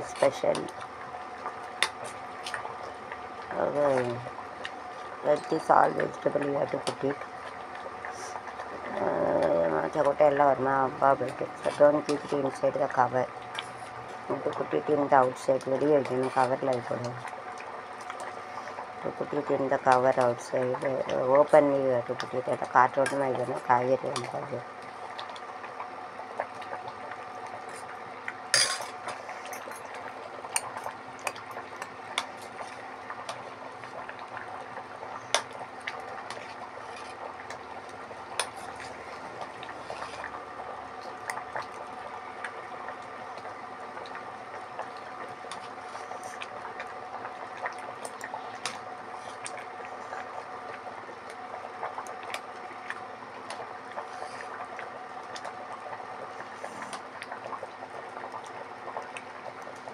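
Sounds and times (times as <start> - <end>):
thick gravy bubbling in a pot: 0.0 - 59.9.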